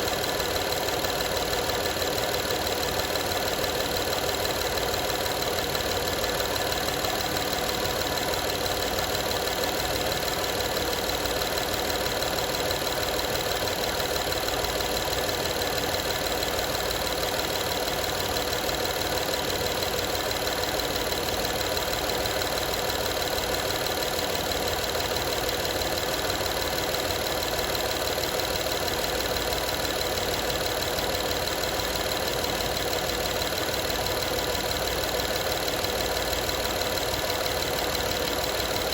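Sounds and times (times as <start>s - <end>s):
car engine running: 0.0s - 38.9s
engine rattle: 0.0s - 38.9s.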